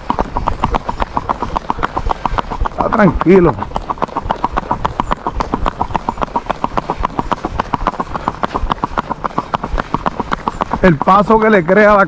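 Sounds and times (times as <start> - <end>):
horse hooves on asphalt: 0.0 - 12.0.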